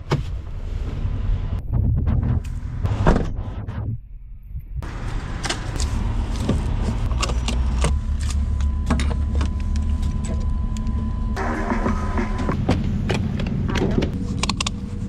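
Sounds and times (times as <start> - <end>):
steady low rumble: 0.3 - 15.0.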